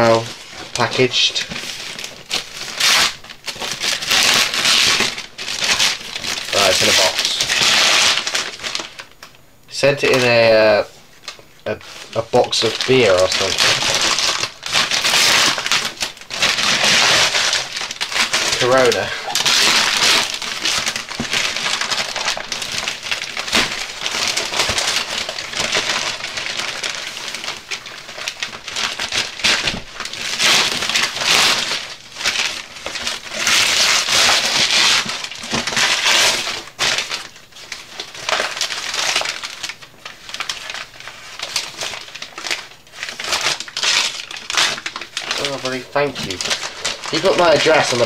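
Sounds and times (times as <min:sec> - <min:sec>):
paper wrapping being ripped: 0:00.0 - 0:09.1, 0:11.7 - 0:48.0.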